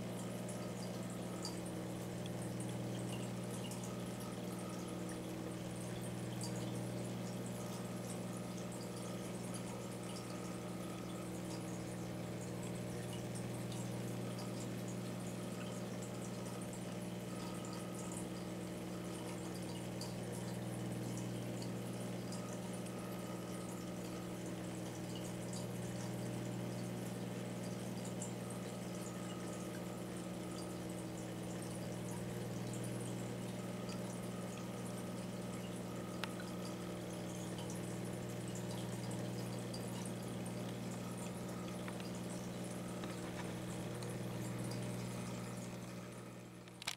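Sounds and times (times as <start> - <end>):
aquarium pump humming: 0.0 - 46.9
water bubbling and trickling: 0.1 - 46.6.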